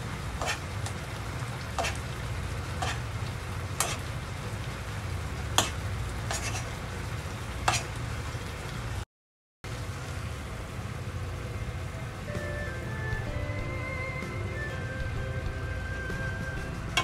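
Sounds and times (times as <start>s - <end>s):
sauce bubbling and sizzling: 0.0s - 9.0s, 9.7s - 17.0s.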